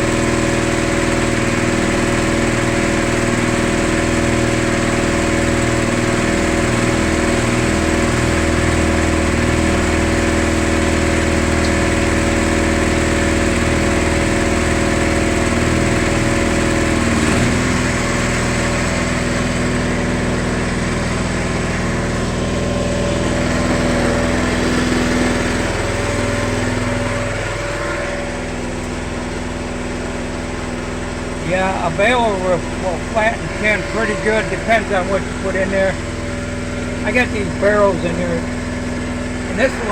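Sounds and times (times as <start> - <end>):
gas engine running: 0.0 - 39.9.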